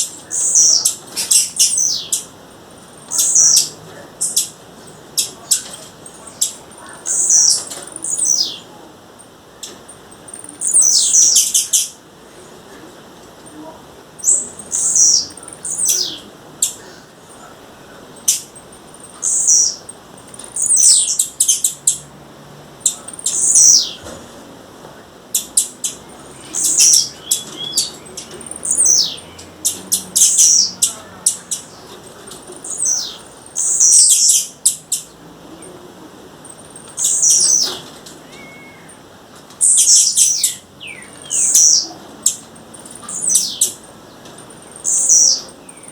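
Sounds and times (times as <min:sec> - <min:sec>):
bird calling: 0:00.0 - 0:09.0, 0:09.6 - 0:12.8, 0:13.5 - 0:22.1, 0:22.8 - 0:24.3, 0:25.3 - 0:45.9.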